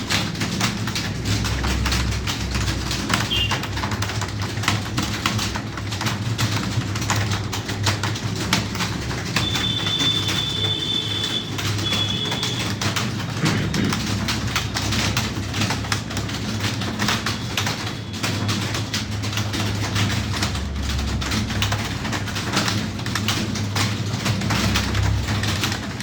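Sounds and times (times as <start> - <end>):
keyboards clicking: 0.0 - 26.0.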